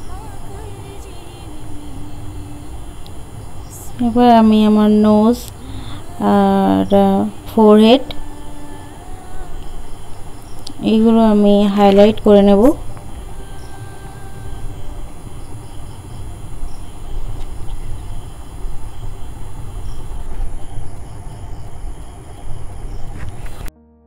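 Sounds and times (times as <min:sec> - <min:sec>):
faint high chirps: 0:00.0 - 0:23.2
low rumble: 0:00.0 - 0:23.7.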